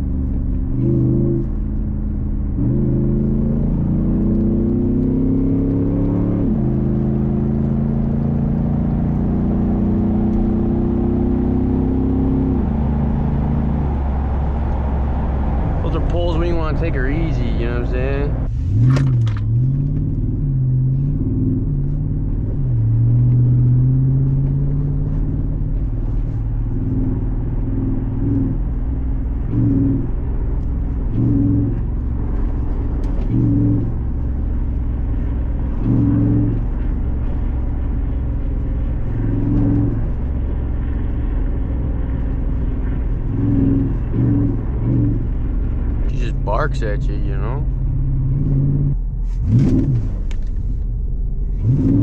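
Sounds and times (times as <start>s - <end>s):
car engine droning: 0.0s - 52.0s.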